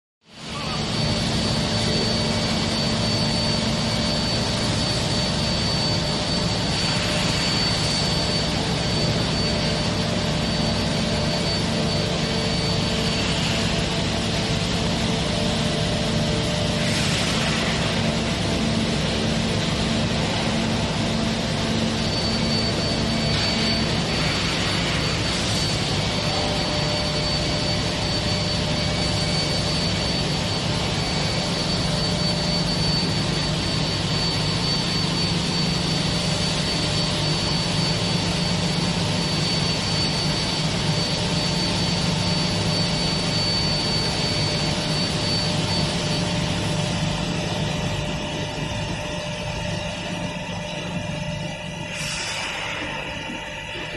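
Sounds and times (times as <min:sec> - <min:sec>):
high machine whine: 0:00.2 - 0:53.9
press machinery din: 0:00.4 - 0:53.9.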